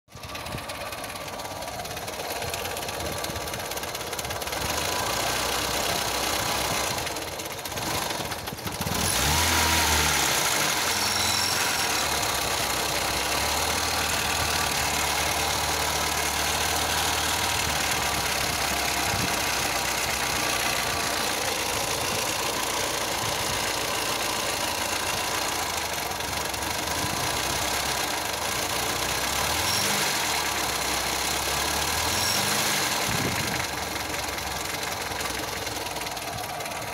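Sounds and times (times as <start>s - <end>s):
car engine running: 0.1s - 36.9s.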